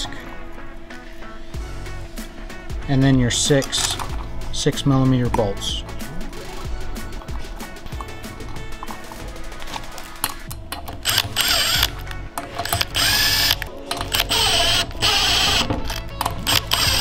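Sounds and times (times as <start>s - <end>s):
power driver spinning: 0.0s - 17.0s.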